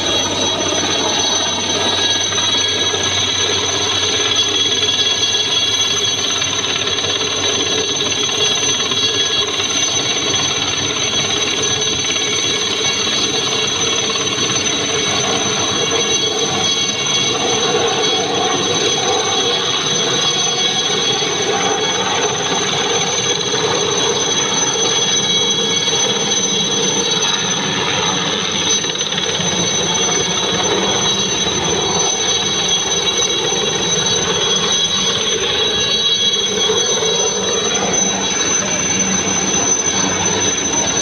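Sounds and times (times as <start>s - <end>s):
helicopter turbine whine and rotor: 0.0s - 41.0s.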